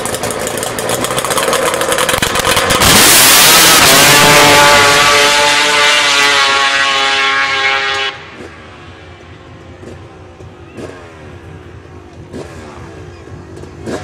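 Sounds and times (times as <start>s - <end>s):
quad engine revving: 0.0s - 14.0s.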